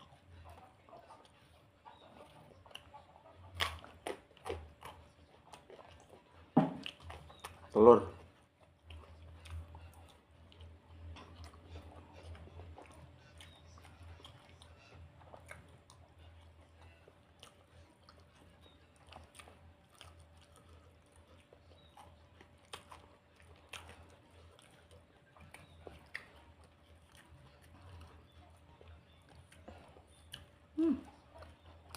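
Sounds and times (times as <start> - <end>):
people chewing food: 0.0 - 31.9.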